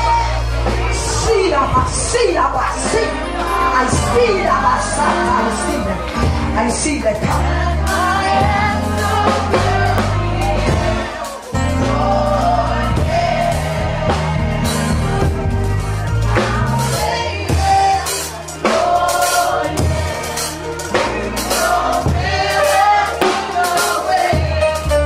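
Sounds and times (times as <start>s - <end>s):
bass: 0.0s - 25.0s
drum kit: 0.0s - 25.0s
gospel singing: 0.0s - 25.0s.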